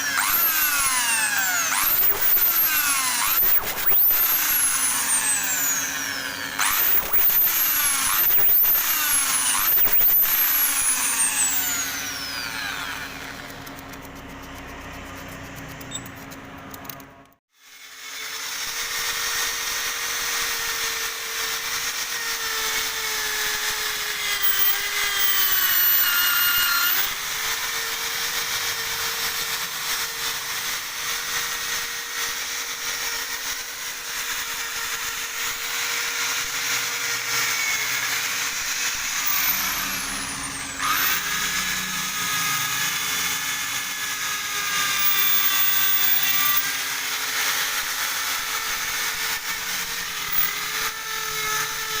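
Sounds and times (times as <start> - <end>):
electric drill motor whine: 0.0 - 16.1, 17.6 - 52.0.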